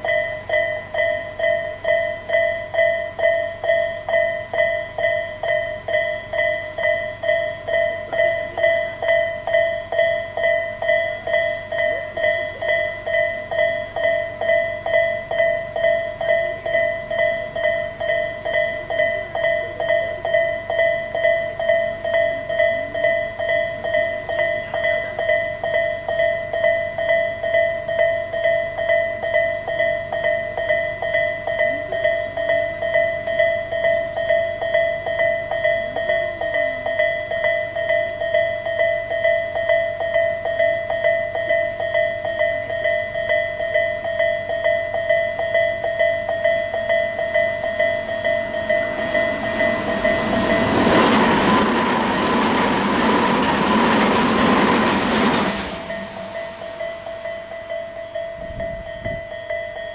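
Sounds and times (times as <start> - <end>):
level crossing warning bell ringing: 0.0 - 59.9.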